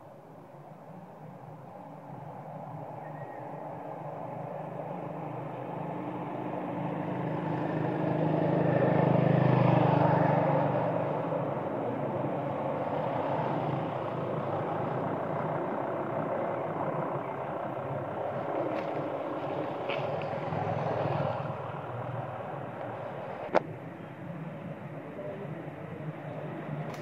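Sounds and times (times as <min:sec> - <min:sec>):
vehicle engine passing by: 0:02.6 - 0:27.0.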